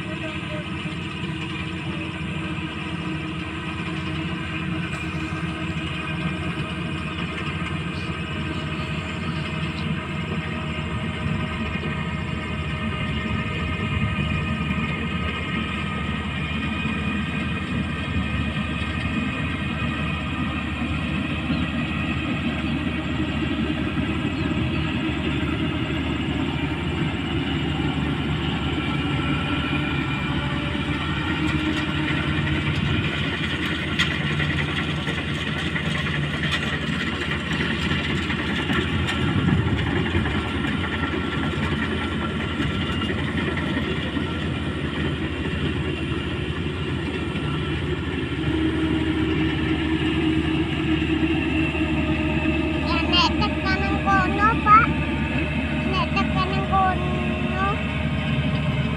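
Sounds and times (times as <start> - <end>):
combine harvester drone: 0.0 - 58.9.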